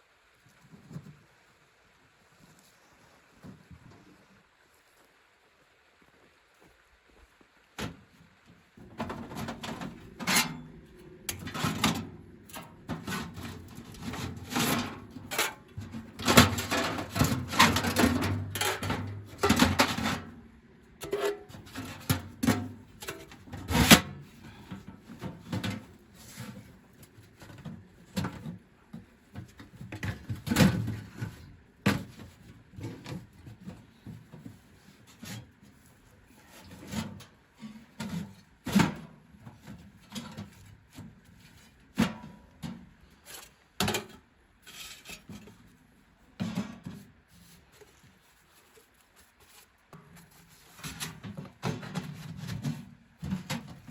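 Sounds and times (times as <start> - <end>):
objects knocking and scraping: 8.8 - 53.9.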